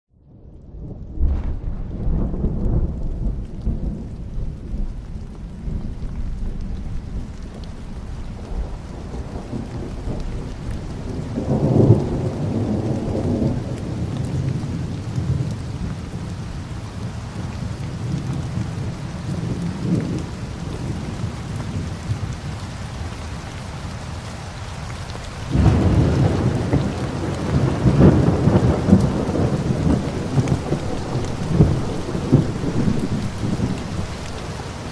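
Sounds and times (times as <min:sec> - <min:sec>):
rolling thunder: 0:00.2 - 0:23.1, 0:25.2 - 0:34.9
steady rain falling: 0:00.3 - 0:34.9.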